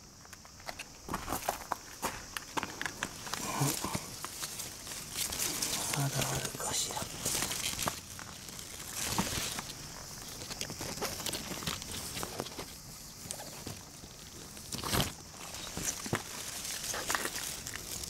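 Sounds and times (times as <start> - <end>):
leaves crackling: 1.0 - 18.0
leaves rustling by hand: 1.2 - 18.0
leaves swishing: 3.2 - 18.0.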